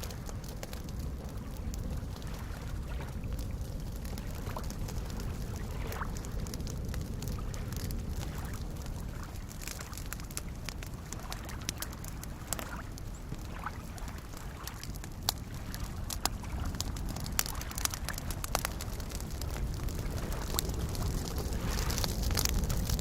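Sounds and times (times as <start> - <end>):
campfire crackling and popping: 0.0 - 23.0
lake waves lapping: 0.0 - 23.0.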